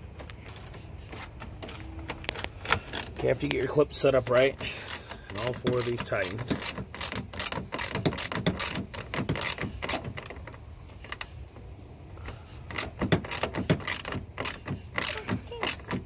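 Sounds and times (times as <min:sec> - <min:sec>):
hand ratchet clicking: 0:00.2 - 0:11.3, 0:12.2 - 0:16.0.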